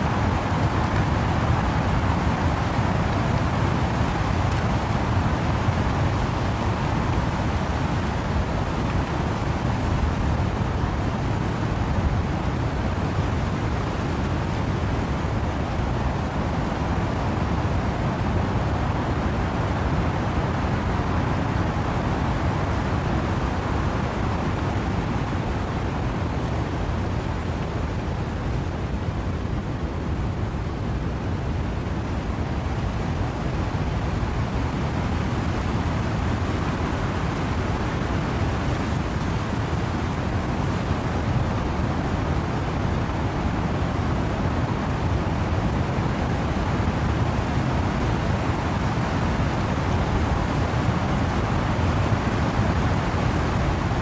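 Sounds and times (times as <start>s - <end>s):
steady rain: 0.0s - 54.0s
wind blowing through trees: 0.0s - 54.0s.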